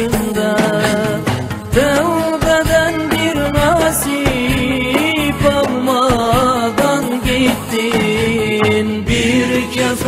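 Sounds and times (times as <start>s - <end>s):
person singing ornamented melody: 0.0s - 10.0s.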